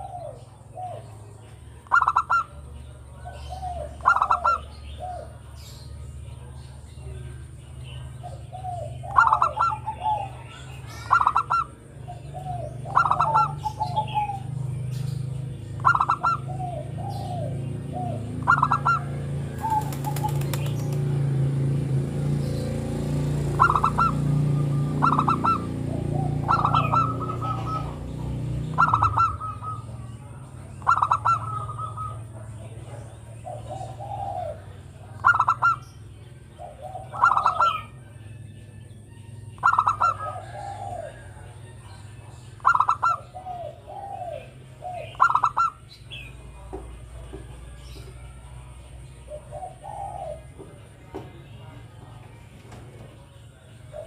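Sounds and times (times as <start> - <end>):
dove cooing: 0.0 - 5.7, 6.3 - 38.2, 38.8 - 54.0.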